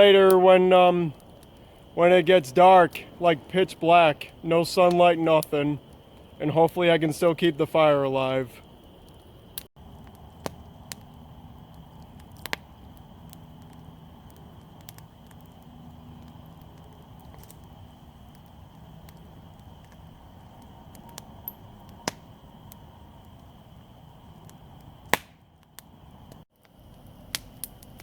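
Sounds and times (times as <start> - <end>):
campfire crackling and popping: 0.0 - 28.0
low steady fire hiss: 0.0 - 28.0.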